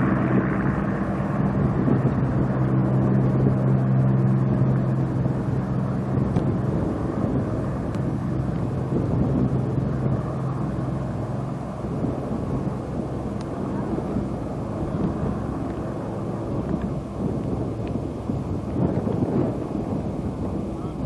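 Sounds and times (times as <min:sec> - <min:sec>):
piston aircraft engines droning: 0:00.0 - 0:21.0.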